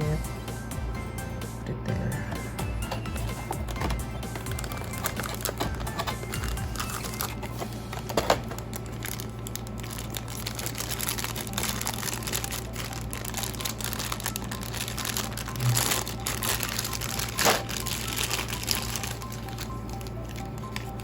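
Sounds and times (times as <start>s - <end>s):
plastic packaging crinkling: 2.8s - 21.0s.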